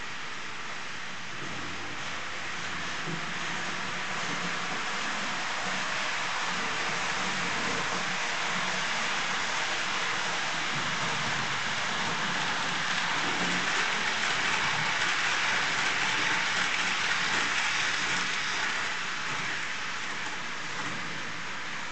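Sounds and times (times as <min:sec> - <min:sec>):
model train rolling hiss: 0:01.8 - 0:21.9.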